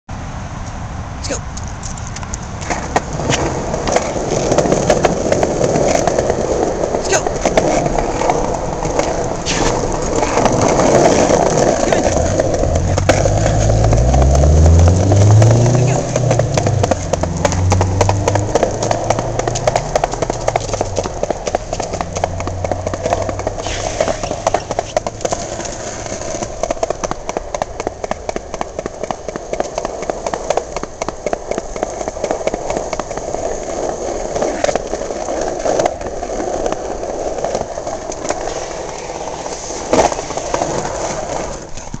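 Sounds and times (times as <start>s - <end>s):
skateboard wheels rolling on concrete: 0.1s - 42.0s.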